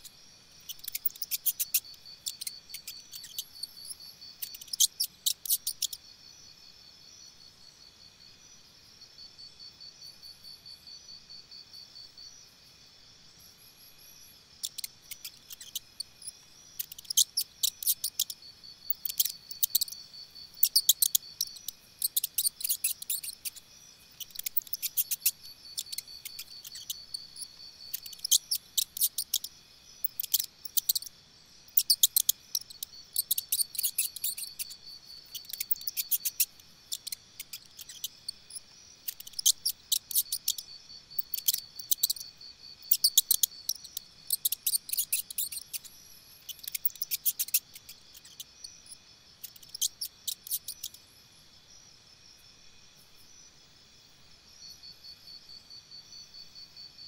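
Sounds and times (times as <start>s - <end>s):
high-pitched insect drone: 0.0s - 53.5s
insects chirping in clicking bursts: 0.0s - 57.0s.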